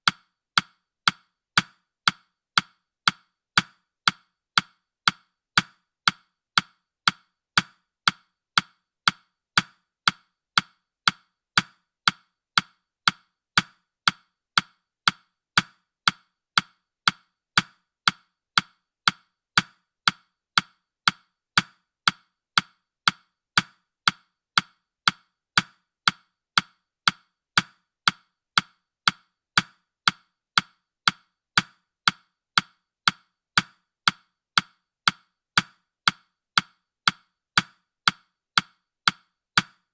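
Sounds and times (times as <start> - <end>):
timer ticking woody clicks: 0.0 - 39.9.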